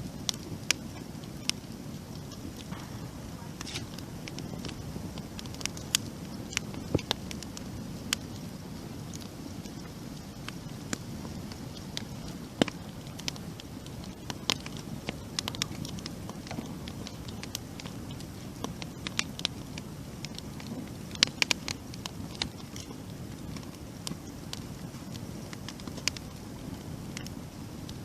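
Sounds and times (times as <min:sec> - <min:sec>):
campfire flames rushing: 0:00.0 - 0:28.0
fire crackles and pops: 0:00.0 - 0:28.0.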